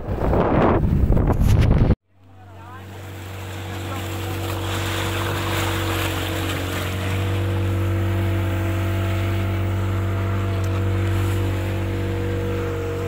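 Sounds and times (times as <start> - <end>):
water splashing against bow: 1.3 - 13.0
motorboat engine running: 2.0 - 13.0.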